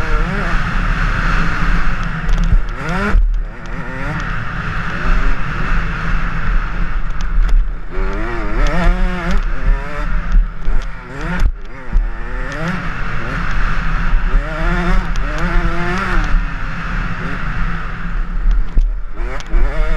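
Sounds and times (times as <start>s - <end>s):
motorbike engine revving: 0.0s - 19.9s.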